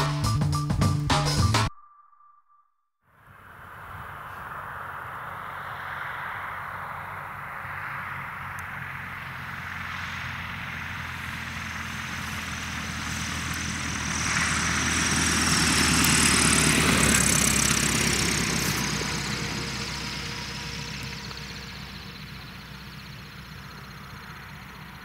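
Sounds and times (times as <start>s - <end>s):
light aircraft engine and propeller: 3.4s - 25.0s.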